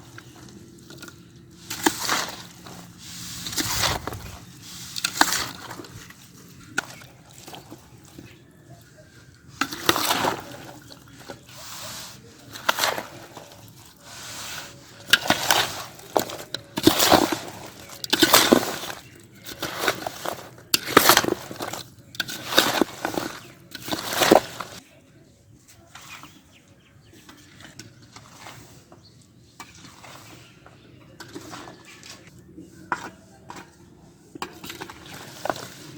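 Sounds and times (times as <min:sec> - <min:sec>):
lemons mixed in a vessel: 0:00.0 - 0:35.9.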